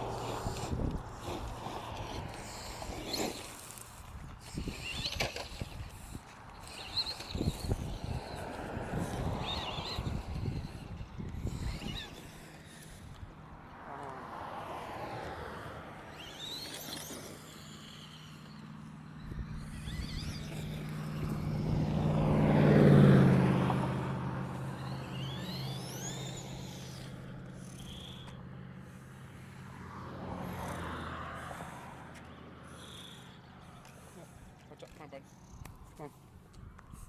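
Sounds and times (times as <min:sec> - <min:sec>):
rc truck motor whining: 0:00.0 - 0:37.0.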